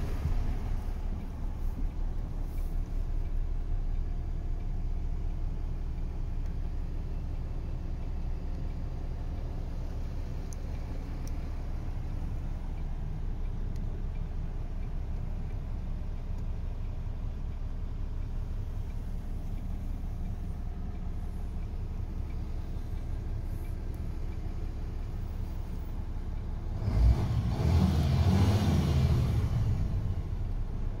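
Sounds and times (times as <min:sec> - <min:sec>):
diesel engine idling: 0:00.0 - 0:31.0
rumble with rushing hiss: 0:00.0 - 0:31.0.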